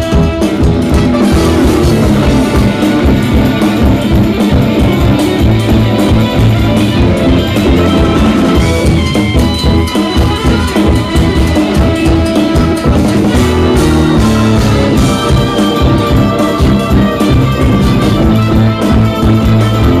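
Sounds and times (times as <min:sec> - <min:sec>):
jazz fusion band playing: 0:00.0 - 0:20.0.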